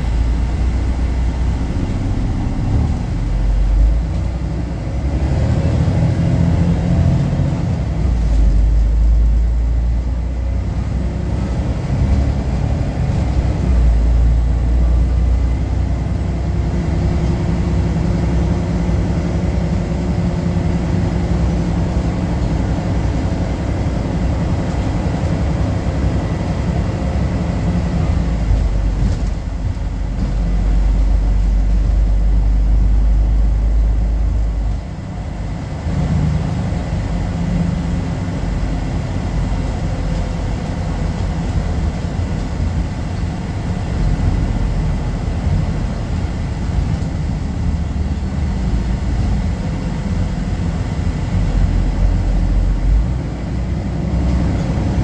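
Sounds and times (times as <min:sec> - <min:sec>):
bus diesel engine running: 0:00.0 - 0:55.0
road and tyre rumble: 0:00.0 - 0:55.0.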